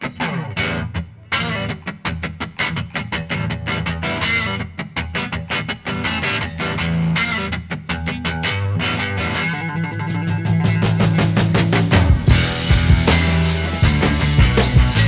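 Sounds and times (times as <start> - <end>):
electric guitar quick repeated notes: 0.0 - 15.0
rock music: 0.0 - 15.0.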